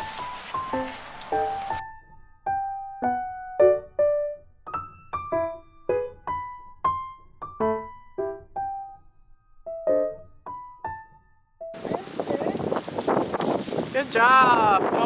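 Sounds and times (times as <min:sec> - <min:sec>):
slow piano music: 0:00.0 - 0:12.3.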